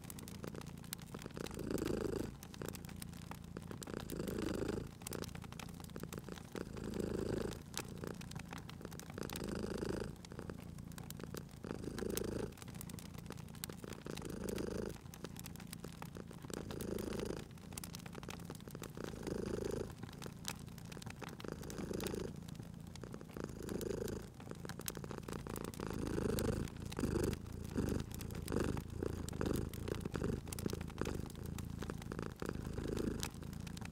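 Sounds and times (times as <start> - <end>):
cat purring: 0.0 - 33.9
wood fire crackling: 0.0 - 33.9.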